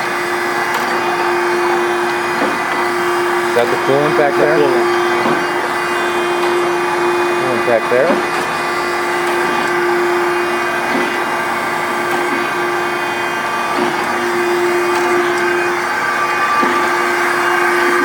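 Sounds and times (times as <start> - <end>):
surface grinder hum and whine: 0.0 - 18.0.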